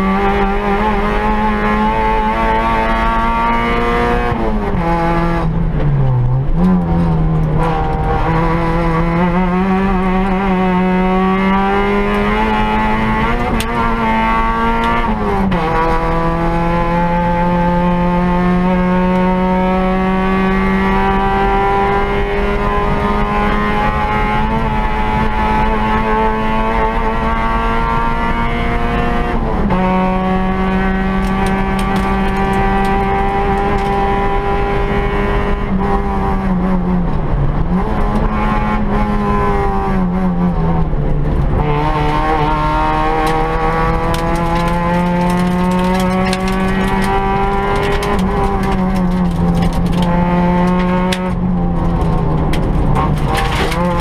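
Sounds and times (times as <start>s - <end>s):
car engine pulling hard: 0.0s - 54.0s.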